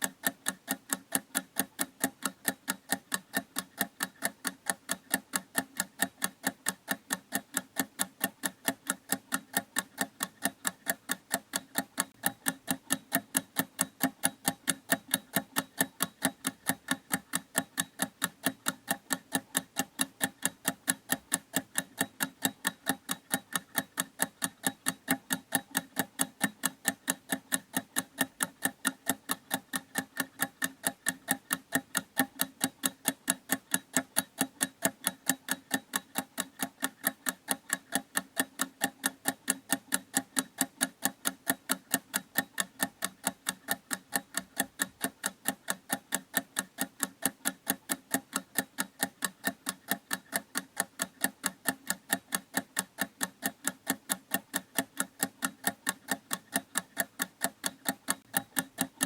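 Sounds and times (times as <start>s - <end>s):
clock ticking rapidly: 0.0s - 59.0s.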